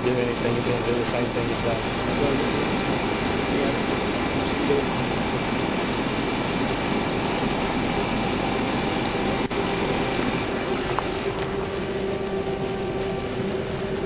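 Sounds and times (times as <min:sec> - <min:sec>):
car air conditioning blower: 0:00.0 - 0:14.0
car engine running: 0:00.0 - 0:14.0
faint steady hum: 0:00.0 - 0:14.0.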